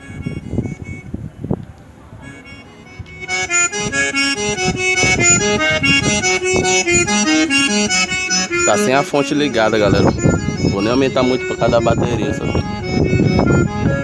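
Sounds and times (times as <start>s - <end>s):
accordion music through car speakers: 0.0s - 1.3s, 2.2s - 14.0s.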